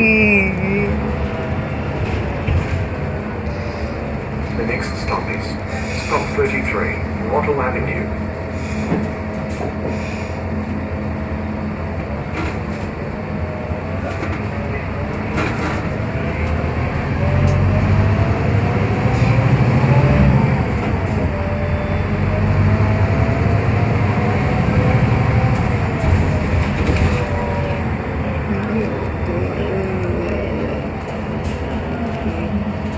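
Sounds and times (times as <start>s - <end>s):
bus engine rumble: 0.0s - 32.9s
drivetrain whine: 0.0s - 32.9s.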